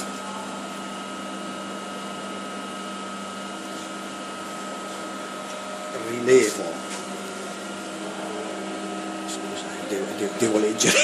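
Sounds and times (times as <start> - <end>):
lathe machine hum: 0.0 - 11.0.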